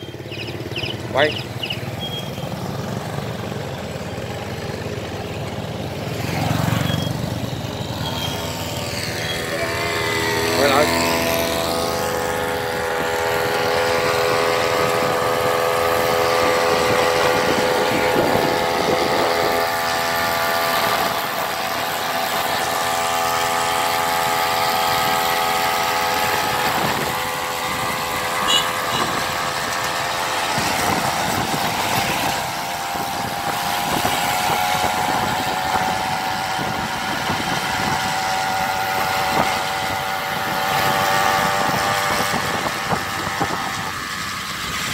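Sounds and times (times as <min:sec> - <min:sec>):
small two-stroke engine running: 0:00.0 - 0:44.9.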